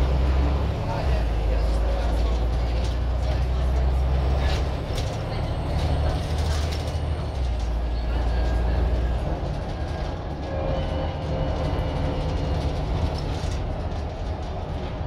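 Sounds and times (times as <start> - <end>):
diesel bus engine drone: 0.0 - 15.0
road noise: 0.0 - 15.0.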